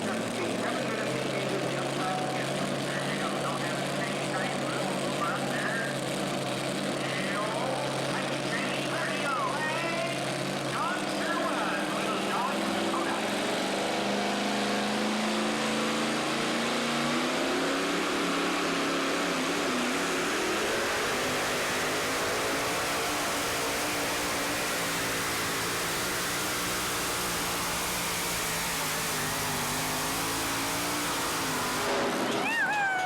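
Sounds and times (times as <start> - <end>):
racing engine running hard: 0.0 - 33.0.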